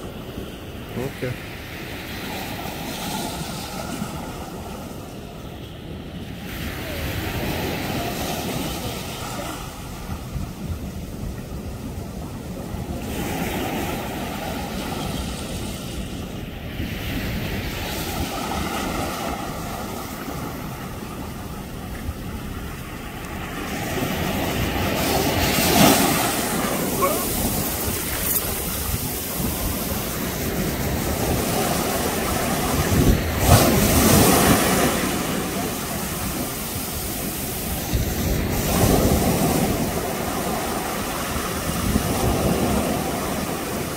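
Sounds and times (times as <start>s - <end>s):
ocean surf over rocks: 0.0s - 43.9s.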